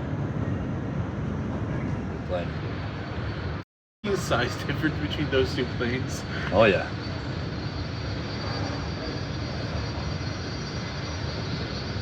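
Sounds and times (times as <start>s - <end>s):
faint high whine: 0.0s - 12.0s
jet engine rumble and hiss: 0.0s - 12.0s.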